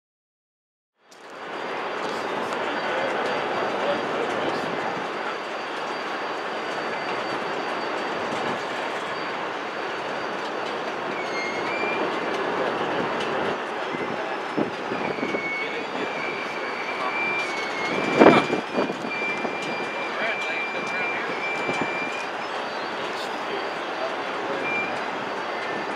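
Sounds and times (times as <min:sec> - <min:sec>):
rail cars rolling on steel wheels: 0:01.1 - 0:25.9
high wheel squeal: 0:01.4 - 0:25.9.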